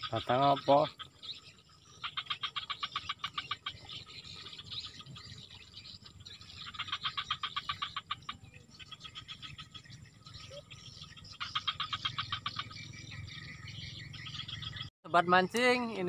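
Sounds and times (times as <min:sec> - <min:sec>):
bird trilling: 0:00.0 - 0:16.0.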